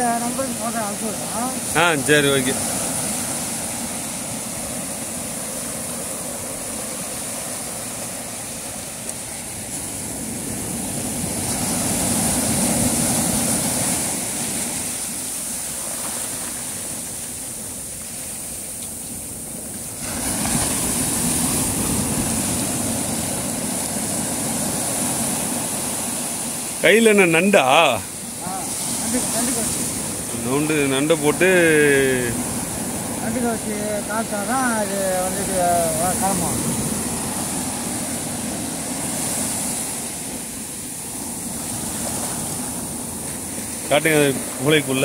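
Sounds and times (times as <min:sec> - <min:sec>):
sea and wind rushing: 0:00.0 - 0:45.0.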